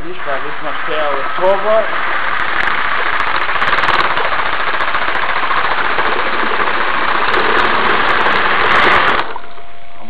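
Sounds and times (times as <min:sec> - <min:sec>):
water churning: 0:00.0 - 0:09.8.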